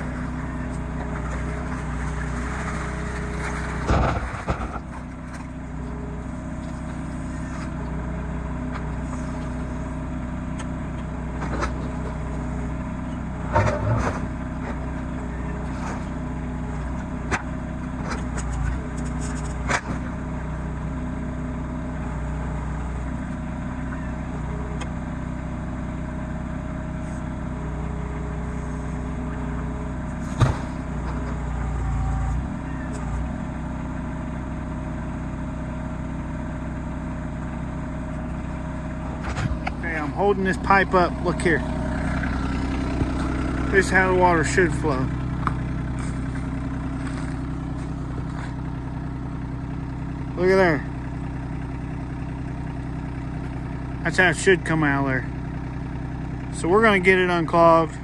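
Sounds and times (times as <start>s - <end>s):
backhoe knocks and clanks: 0.0s - 33.9s, 37.0s - 50.3s
tractor diesel engine running: 0.0s - 58.0s.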